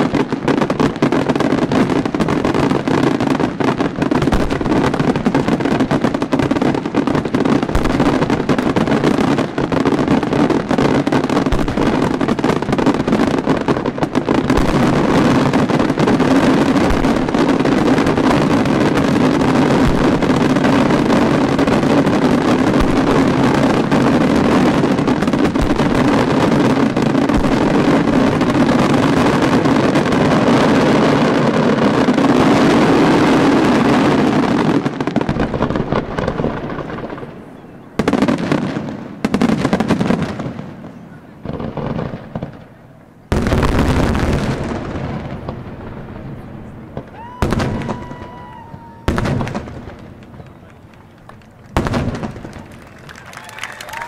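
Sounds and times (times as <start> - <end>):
fireworks barrage: 0.0 - 54.0.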